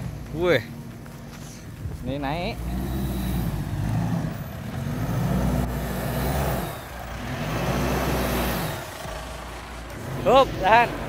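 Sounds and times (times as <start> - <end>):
engine revving under load: 1.6 - 11.0.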